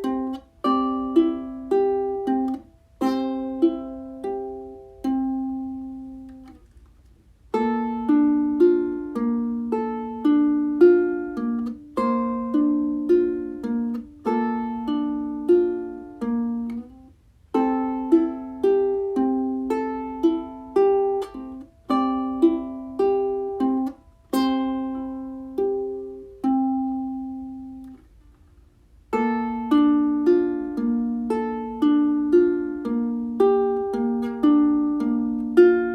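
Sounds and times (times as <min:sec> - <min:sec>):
plucked string melody: 0:00.0 - 0:35.9.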